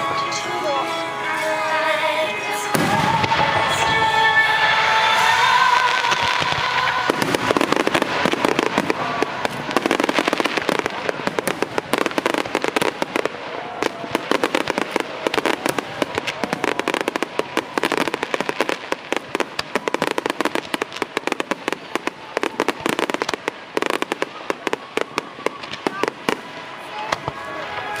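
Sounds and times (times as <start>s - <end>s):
fireworks crackling pops: 2.5s - 28.0s.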